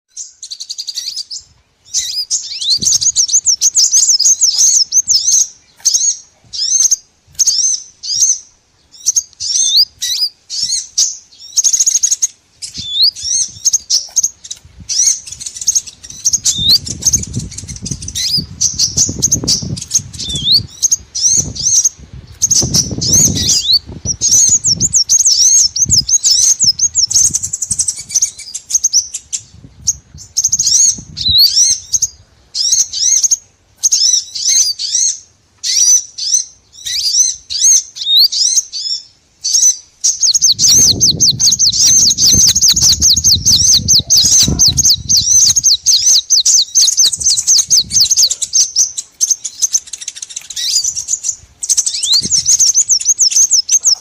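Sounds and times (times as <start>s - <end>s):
small birds chirping: 0.1s - 54.0s.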